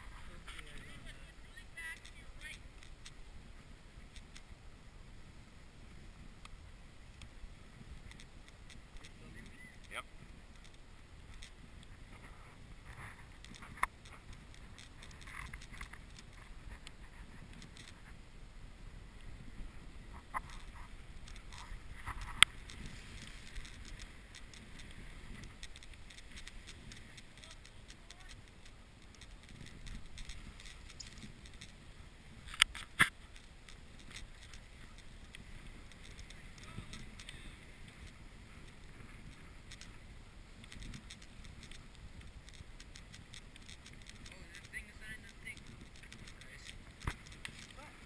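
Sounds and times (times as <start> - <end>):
sled runners scraping snow: 0.0 - 48.0
dogs' paws pattering: 7.9 - 18.2, 19.6 - 48.0.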